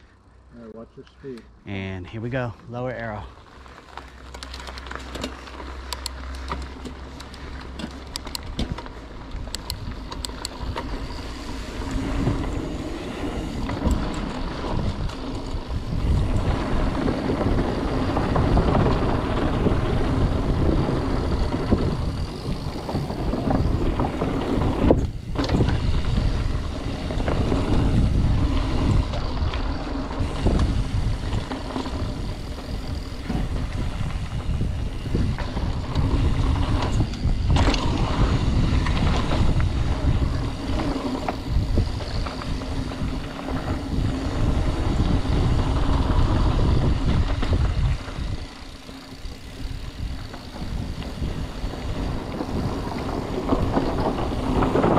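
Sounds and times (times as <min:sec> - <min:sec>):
tyres on wooden boardwalk: 0:00.0 - 0:54.9
bike tyres rattling over dirt: 0:00.1 - 0:54.9
wind buffeting microphone: 0:07.6 - 0:54.9.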